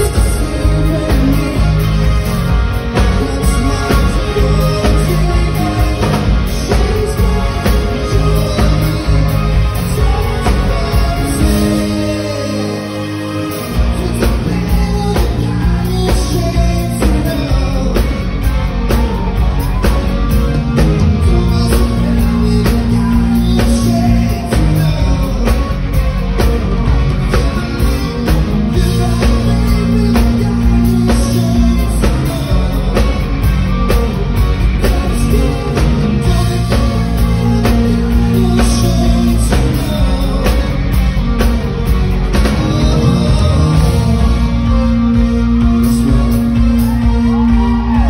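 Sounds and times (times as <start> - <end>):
drums and bass beat: 0.0 - 48.0
live rock band playing: 0.0 - 48.0
man singing: 0.0 - 48.0.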